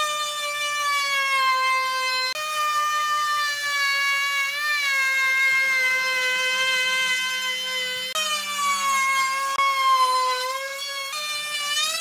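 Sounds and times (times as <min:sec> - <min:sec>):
router cutting wood whining: 0:00.0 - 0:12.0.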